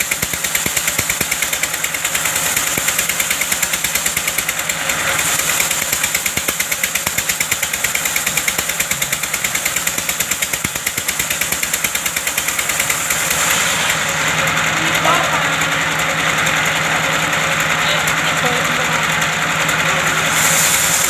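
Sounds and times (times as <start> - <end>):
wood-cutting machine engine running: 0.0 - 21.0.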